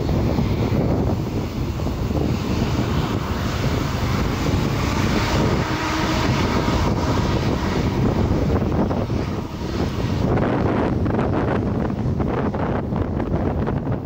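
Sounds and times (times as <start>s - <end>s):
jet engines at taxi power: 0.0s - 14.0s.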